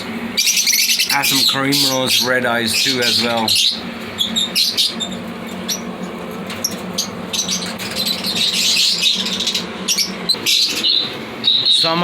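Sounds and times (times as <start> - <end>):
air cooler humming: 0.0 - 12.0
birds chirping and squawking: 0.0 - 12.0.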